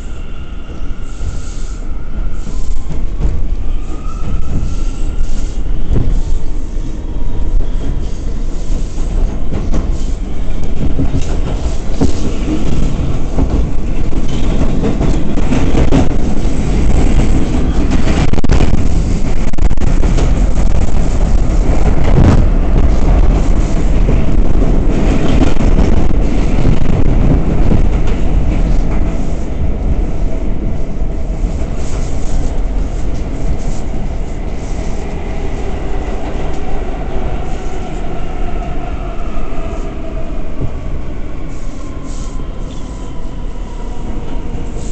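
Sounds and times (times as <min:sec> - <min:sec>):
rumble of train wheels on rail: 0:00.0 - 0:44.9.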